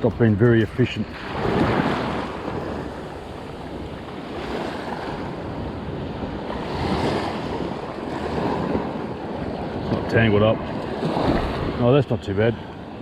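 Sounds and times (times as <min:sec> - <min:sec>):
waves washing onto beach: 0:00.0 - 0:13.0
wind rumbling on microphone: 0:00.0 - 0:13.0.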